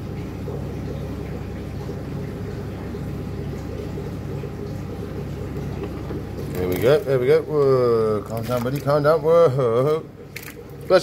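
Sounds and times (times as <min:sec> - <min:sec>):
aquarium pumps humming: 0:00.0 - 0:11.0
water bubbling and running: 0:00.0 - 0:11.0.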